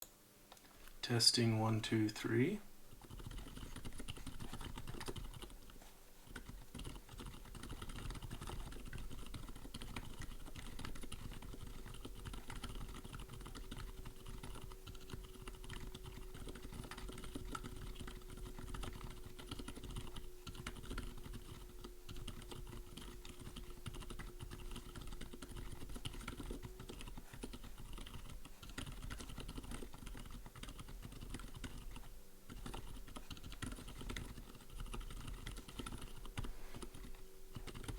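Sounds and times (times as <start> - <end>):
typing on mechanical keyboard: 3.0 - 37.9.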